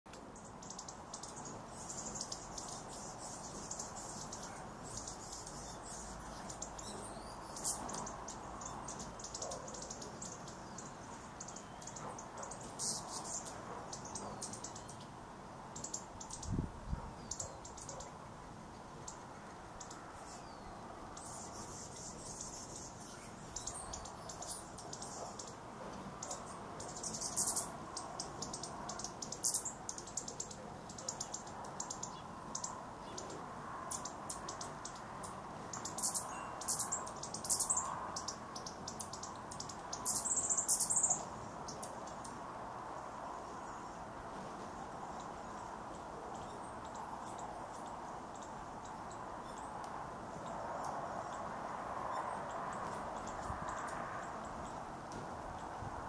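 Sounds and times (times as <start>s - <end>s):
hummingbirds chipping and twittering: 0.1s - 56.0s.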